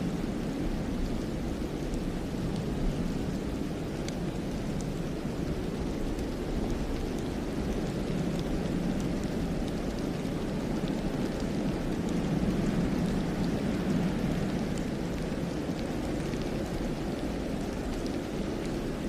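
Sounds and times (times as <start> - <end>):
snowstorm wind through forest: 0.0 - 19.0
faint ticks: 1.0 - 19.0.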